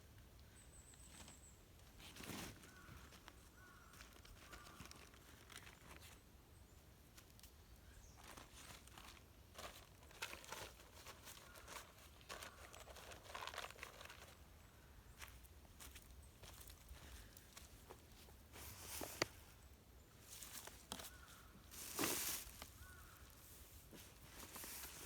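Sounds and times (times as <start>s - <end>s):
rustling and crinkling: 1.0s - 6.3s, 7.1s - 25.0s.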